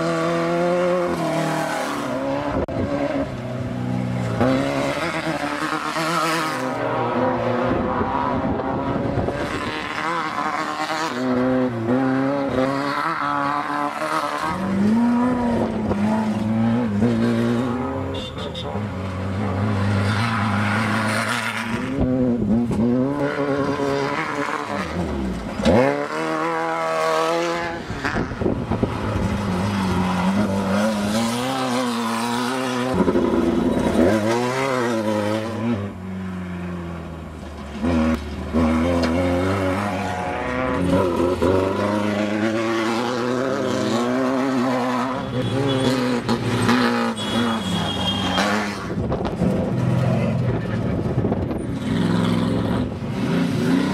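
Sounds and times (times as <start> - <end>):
off-road vehicles revving past: 0.0 - 53.9.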